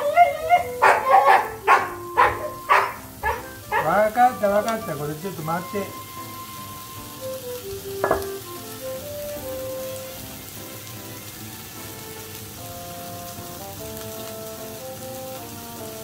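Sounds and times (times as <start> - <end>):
meat sizzling on a grill plate: 0.0 - 16.0.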